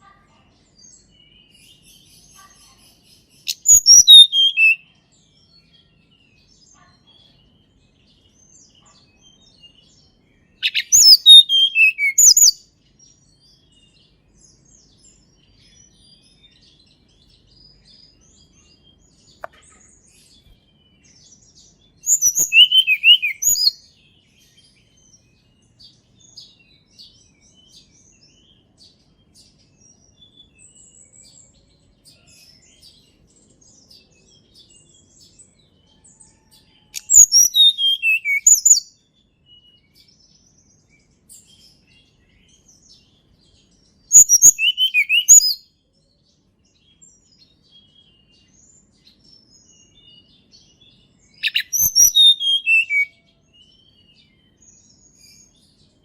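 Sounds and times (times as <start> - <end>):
faint bird chirps: 0.0 - 56.0
songbird singing: 0.0 - 56.0.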